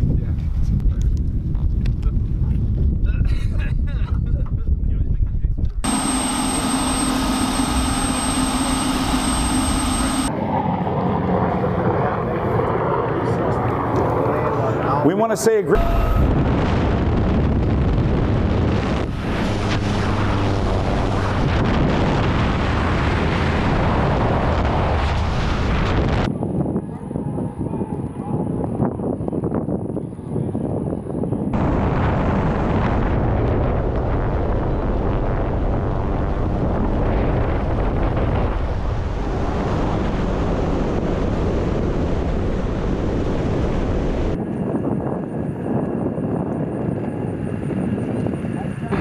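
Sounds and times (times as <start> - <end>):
wind rushing on microphone: 0.0 - 49.0
aircraft noise: 5.7 - 49.0.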